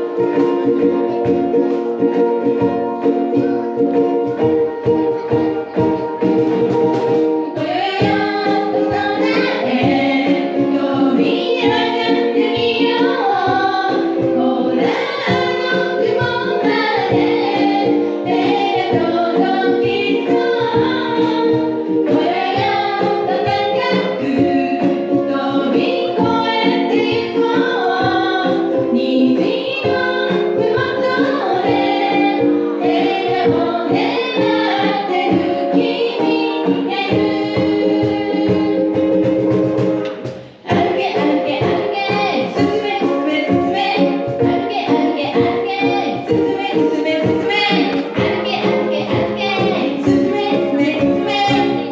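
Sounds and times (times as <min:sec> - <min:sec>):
strummed ukuleles: 0:00.0 - 0:51.9
voices singing together: 0:00.0 - 0:51.9.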